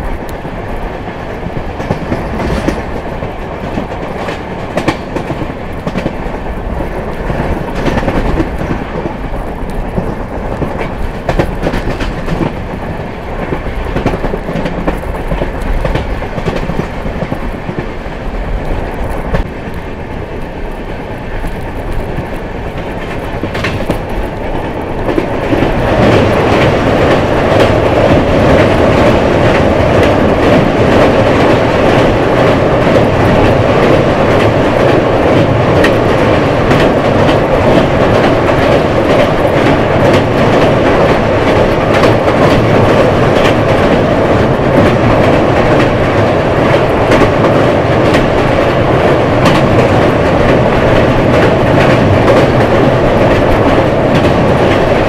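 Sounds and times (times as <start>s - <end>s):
clickety-clack of rail joints: 0.0s - 55.0s
train wheels rumbling on rail: 0.0s - 55.0s.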